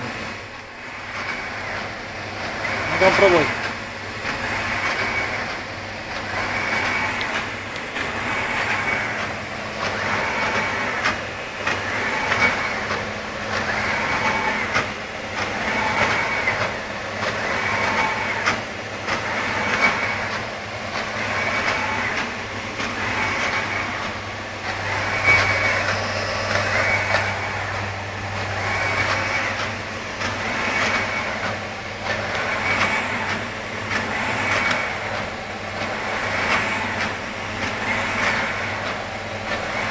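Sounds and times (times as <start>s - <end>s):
printer carriage whirring: 0.0s - 39.9s
steady low hum: 0.0s - 39.9s.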